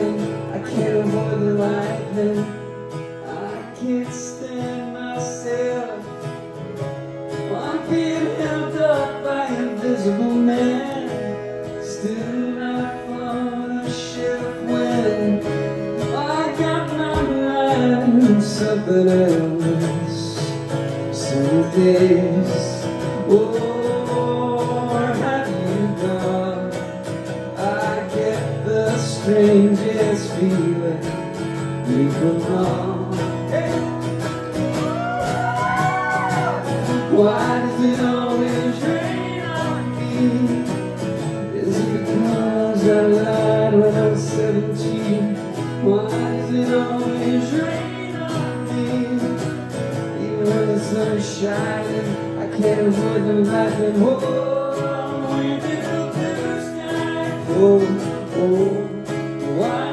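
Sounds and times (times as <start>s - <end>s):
acoustic guitars strummed: 0.0s - 59.9s
man singing: 0.0s - 59.9s.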